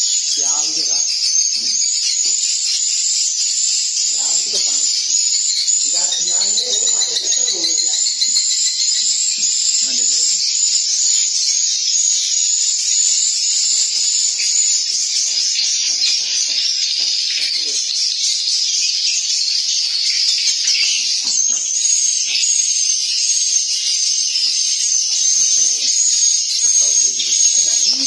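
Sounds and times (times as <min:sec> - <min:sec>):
swiftlets chirping and twittering: 0:00.0 - 0:28.0.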